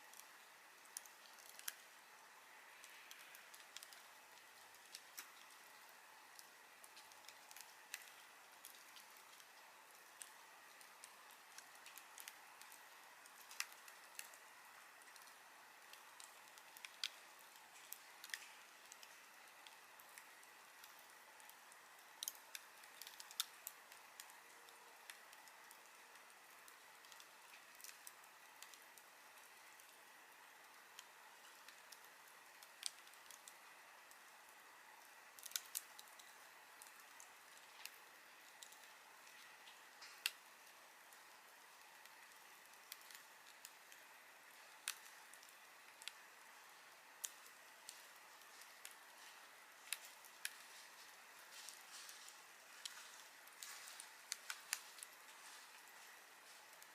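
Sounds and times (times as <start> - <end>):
campfire hiss: 0.0 - 56.9
wood fire crackling: 0.0 - 56.9.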